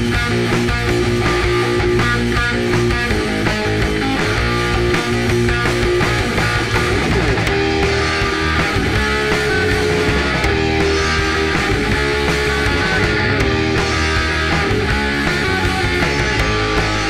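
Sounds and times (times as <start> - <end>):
bass line: 0.0 - 17.0
distorted electric guitar: 0.0 - 17.0.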